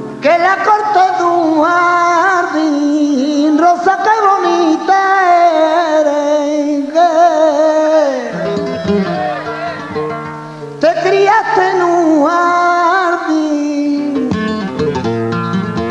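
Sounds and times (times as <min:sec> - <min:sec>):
flamenco guitar: 0:00.0 - 0:15.9
man singing melismatic phrase: 0:00.2 - 0:10.1, 0:10.8 - 0:14.3.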